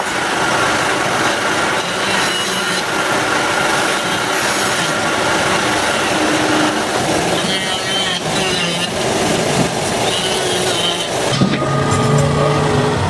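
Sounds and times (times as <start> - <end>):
tool scraping wood: 1.8 - 12.3.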